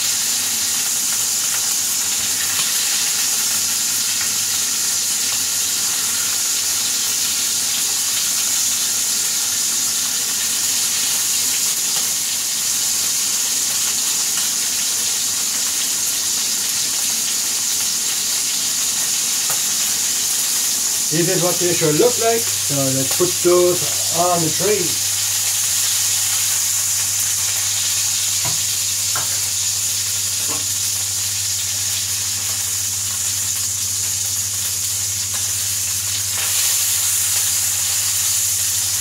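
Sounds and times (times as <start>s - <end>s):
patties sizzling in a frying pan: 0.0s - 39.0s.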